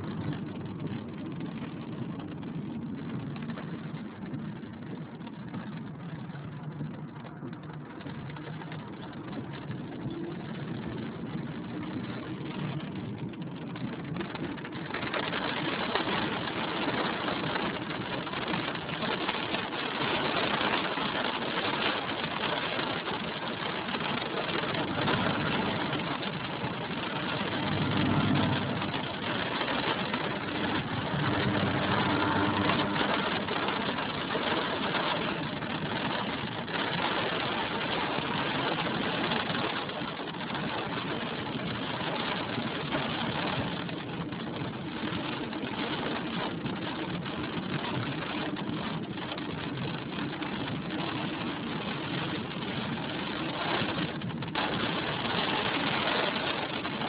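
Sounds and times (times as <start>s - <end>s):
car engine running: 0.0s - 57.0s
rain and tyres hissing: 0.0s - 57.0s.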